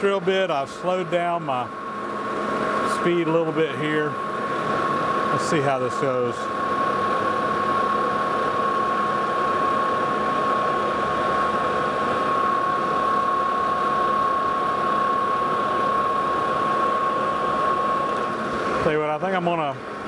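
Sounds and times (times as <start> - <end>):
lathe running: 0.0 - 20.0.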